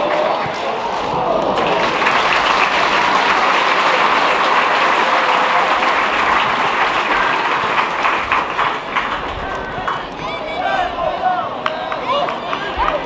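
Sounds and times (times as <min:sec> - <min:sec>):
stadium crowd applauding: 0:00.0 - 0:13.0.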